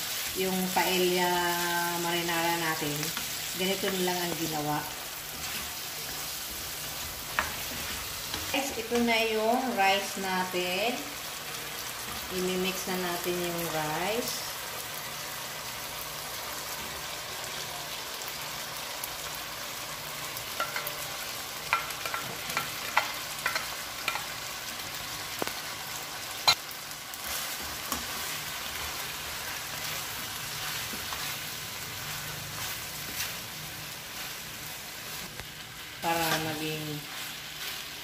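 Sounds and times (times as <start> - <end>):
food sizzling in a wok: 0.0 - 38.0.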